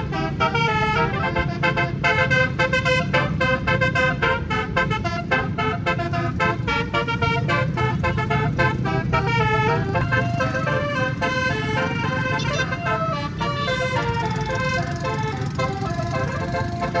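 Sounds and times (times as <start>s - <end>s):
bus air horn melody: 0.0s - 17.0s.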